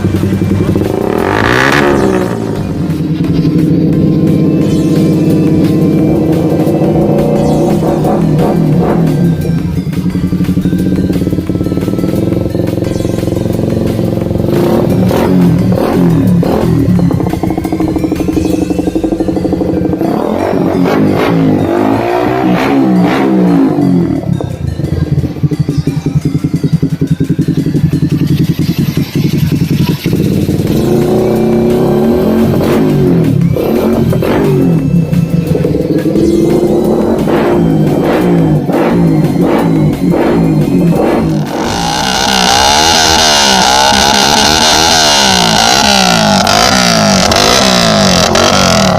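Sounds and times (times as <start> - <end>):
motorcycle idling and revving: 0.0 - 48.9.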